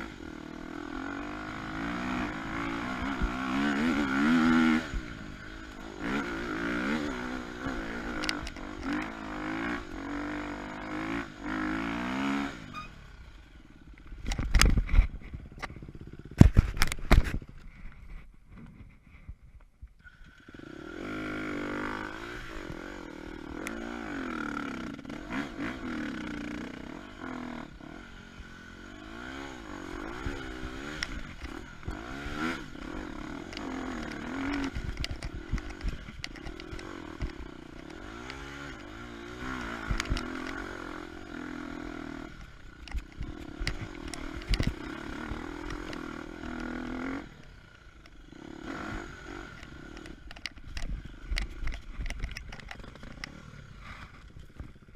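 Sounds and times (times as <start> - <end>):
dirt bike engine revving: 0.0 - 17.4, 20.1 - 54.9.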